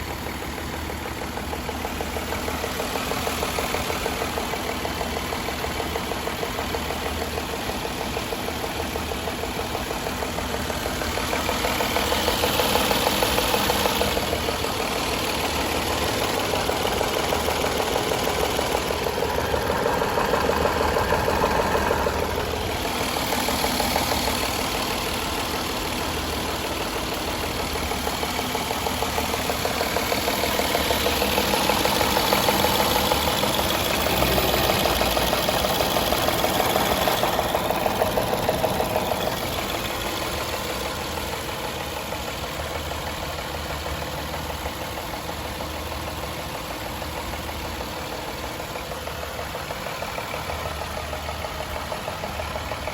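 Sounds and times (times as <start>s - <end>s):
car engine idling with ticking: 0.0s - 52.9s.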